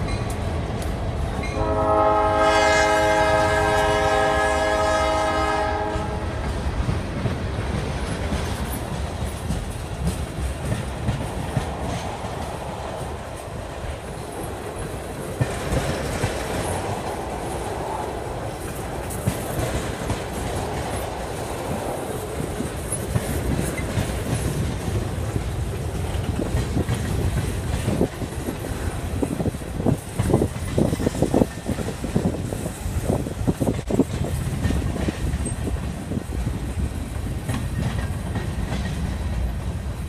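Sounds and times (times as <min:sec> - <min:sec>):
freight train wheels rumbling: 0:00.0 - 0:40.0
wheel clacks over rail joints: 0:06.4 - 0:17.7, 0:18.4 - 0:39.8.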